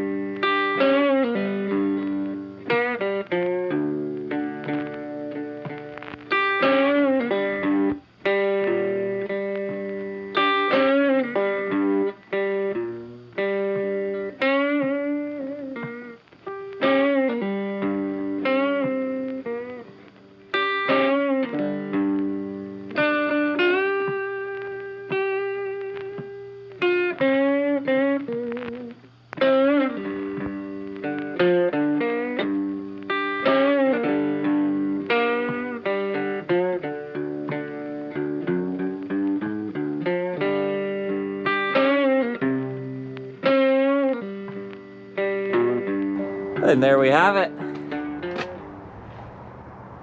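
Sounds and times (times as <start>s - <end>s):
distorted electric guitar: 0.0s - 50.0s.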